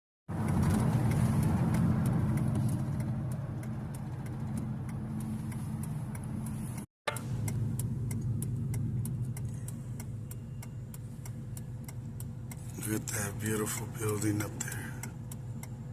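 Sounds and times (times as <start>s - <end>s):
fast even ticking: 0.3s - 15.9s
vehicle engine running: 0.3s - 15.9s.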